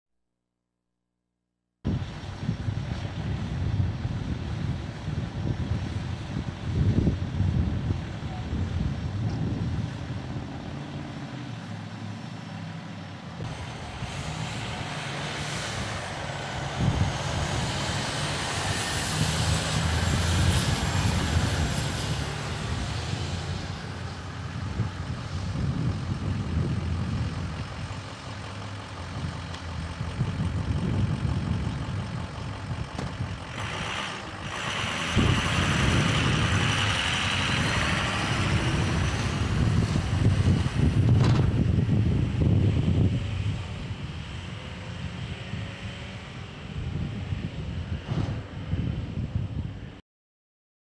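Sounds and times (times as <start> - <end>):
truck engines pulling away: 1.9 - 49.7.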